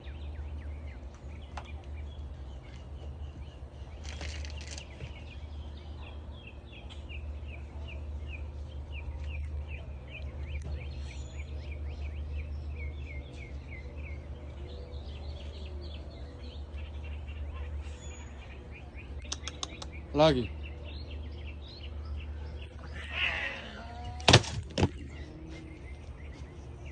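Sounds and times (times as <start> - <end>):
bird chirping: 0.0 - 24.1, 24.8 - 26.9
steady low hum: 0.0 - 26.9.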